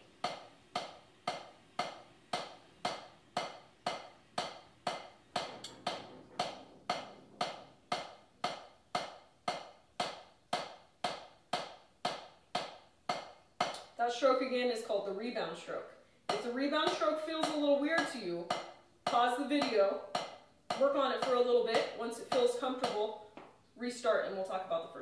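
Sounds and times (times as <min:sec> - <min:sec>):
drumstick hits: 0:00.0 - 0:14.0, 0:16.3 - 0:23.1.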